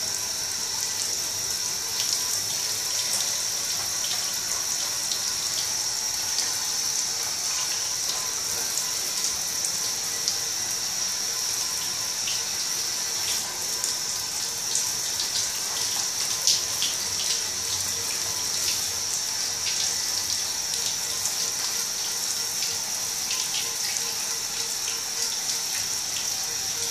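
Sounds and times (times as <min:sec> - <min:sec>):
shower water hissing: 0:00.0 - 0:26.9.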